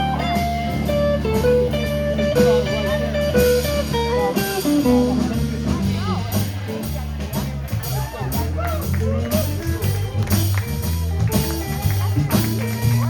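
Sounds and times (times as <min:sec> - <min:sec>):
electric guitar lead: 0:00.0 - 0:07.8, 0:08.4 - 0:13.0
bass guitar: 0:00.0 - 0:13.0
drums: 0:00.0 - 0:13.0.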